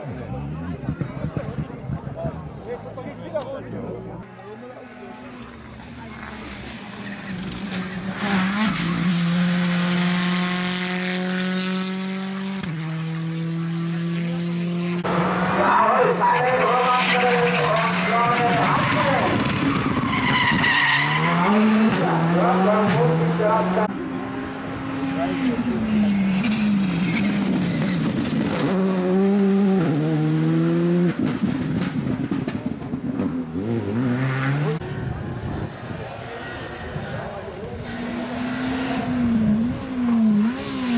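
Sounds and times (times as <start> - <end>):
rally car engines revving high: 4.8 - 40.9.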